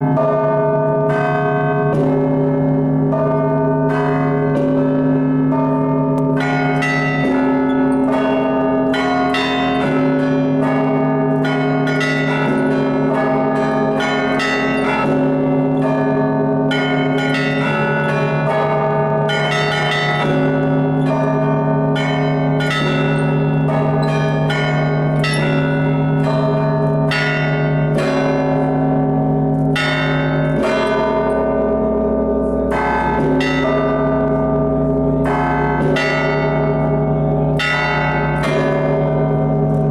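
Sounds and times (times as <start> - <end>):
deep church bells ringing: 0.0 - 39.9
small high church bells: 0.0 - 39.9.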